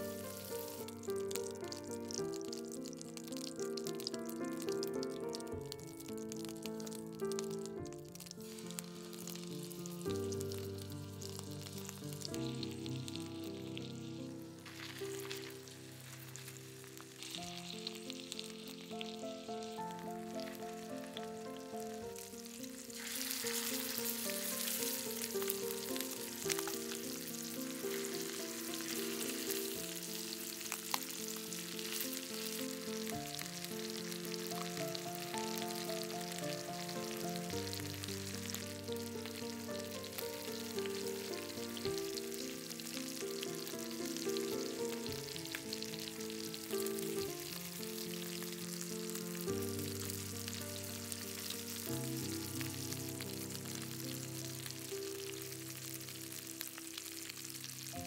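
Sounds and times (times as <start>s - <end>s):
meat sizzling in a pan: 0.0s - 58.0s
soft background music: 0.0s - 58.0s.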